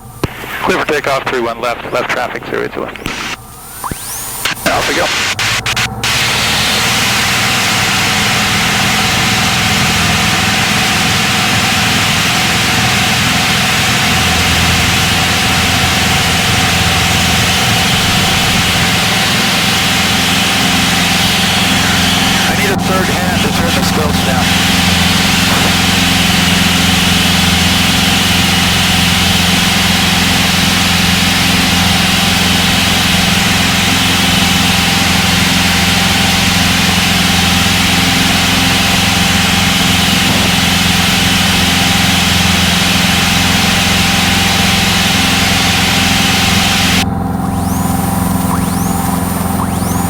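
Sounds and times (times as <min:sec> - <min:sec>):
airplane engine and propeller drone: 0:00.0 - 0:50.0.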